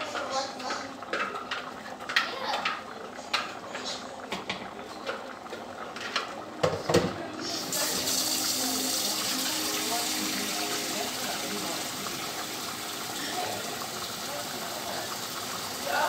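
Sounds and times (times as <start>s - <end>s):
broth bubbling at a rolling boil: 0.0s - 16.0s.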